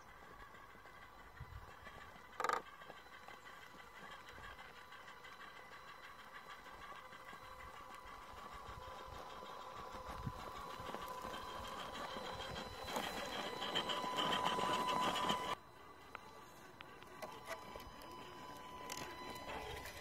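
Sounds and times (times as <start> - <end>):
toy truck electric motor whining: 0.0 - 20.0.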